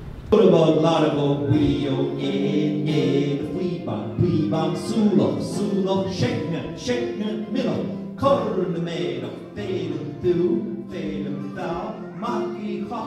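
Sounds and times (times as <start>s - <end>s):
person singing unaccompanied: 0.3s - 13.0s.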